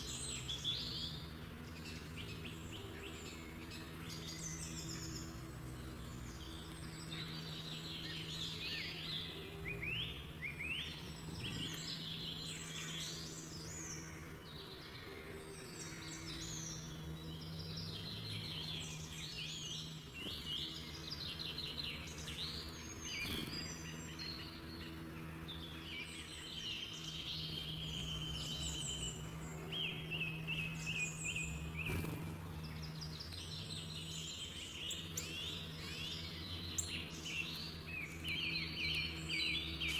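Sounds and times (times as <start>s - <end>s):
birds chirping and trilling: 0.0s - 39.9s
steady low hum: 0.0s - 39.9s.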